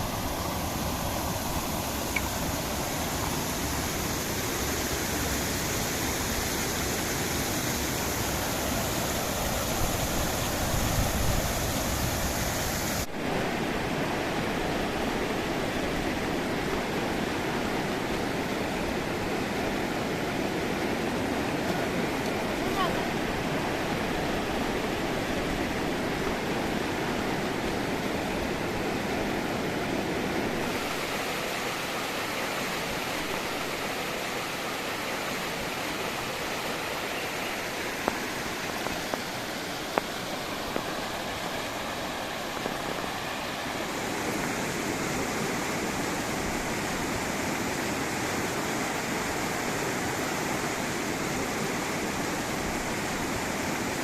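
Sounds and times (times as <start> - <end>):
river rushing over cascade: 0.0 - 54.0.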